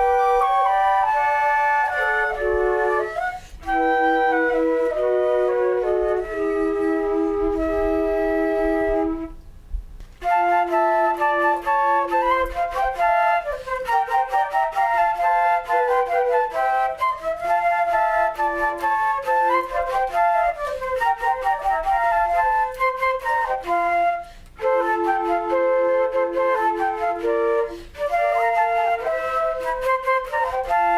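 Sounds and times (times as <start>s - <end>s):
flute melody: 0.0s - 30.9s.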